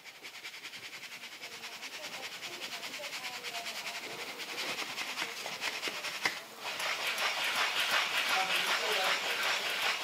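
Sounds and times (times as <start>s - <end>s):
maize rustling through sieve: 0.0s - 10.0s.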